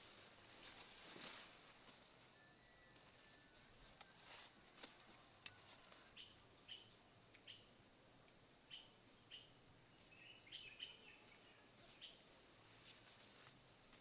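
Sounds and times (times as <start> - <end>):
faint bird chirping: 0.0 - 7.8, 8.6 - 14.0.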